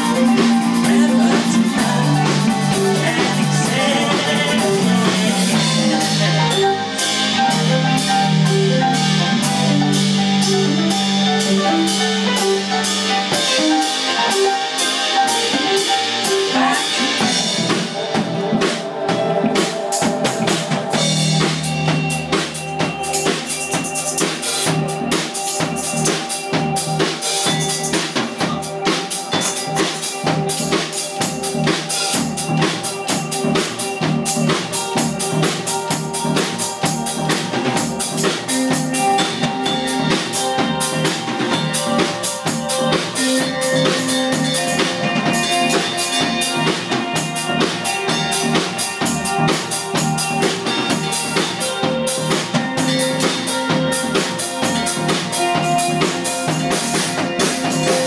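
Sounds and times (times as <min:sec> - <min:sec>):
bass guitar: 0:00.0 - 0:58.0
drum kit beat: 0:00.0 - 0:58.0
electric guitar: 0:00.0 - 0:58.0
keyboards: 0:00.0 - 0:58.0.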